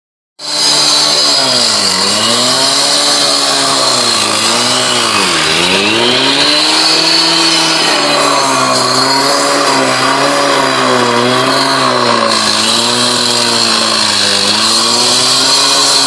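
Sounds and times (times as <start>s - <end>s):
cut-off saw engine revving: 0.4s - 16.0s
spinning blade whine: 0.7s - 15.9s.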